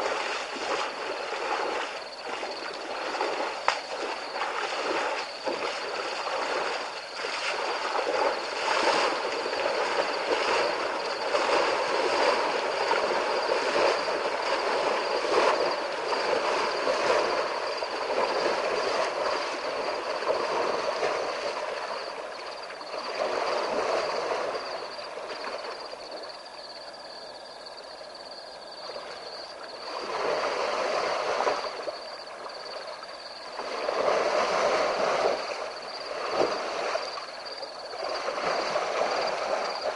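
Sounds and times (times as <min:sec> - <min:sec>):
water splashing and sloshing: 0:00.0 - 0:39.9.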